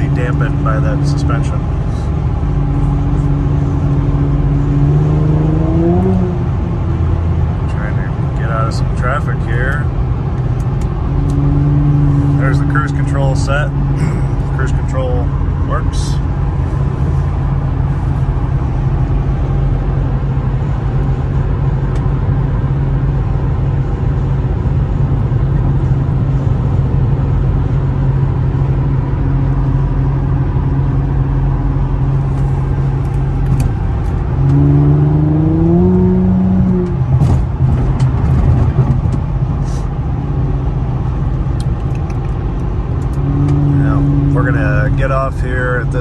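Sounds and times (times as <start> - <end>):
car engine droning: 0.0 - 46.0
road noise: 0.0 - 46.0.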